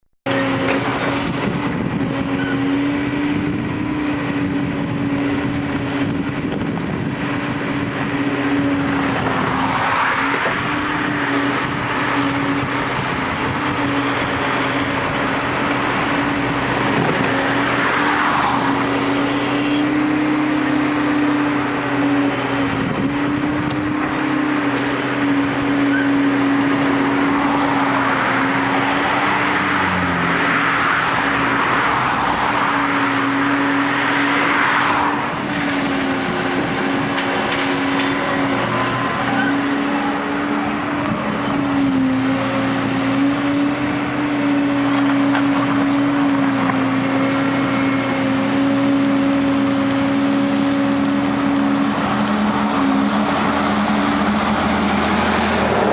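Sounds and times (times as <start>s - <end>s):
excavator engine and hydraulic hum: 0.3s - 55.9s
rushing noise: 0.4s - 55.9s.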